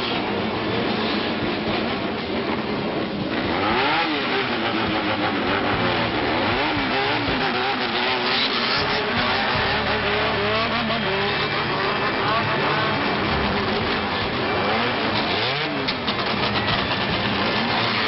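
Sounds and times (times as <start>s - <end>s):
vehicle engines revving: 0.0s - 18.0s.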